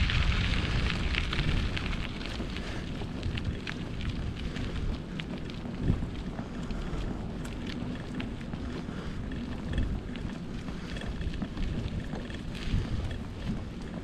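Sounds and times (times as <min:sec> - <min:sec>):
crackling ticks: 0:00.0 - 0:14.0
wind buffeting microphone: 0:00.0 - 0:14.0.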